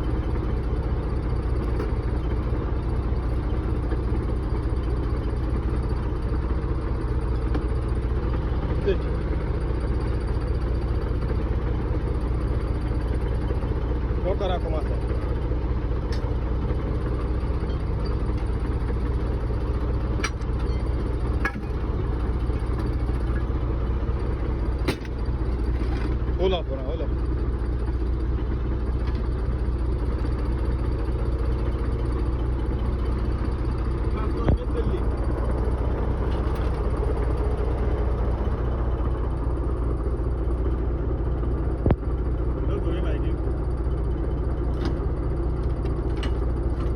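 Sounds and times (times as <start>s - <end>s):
engine idling low drone: 0.0s - 46.9s.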